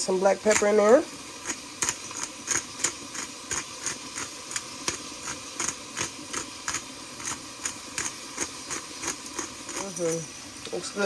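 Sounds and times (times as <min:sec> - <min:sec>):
pepper grinder clicking: 0:00.4 - 0:00.8, 0:01.4 - 0:10.2.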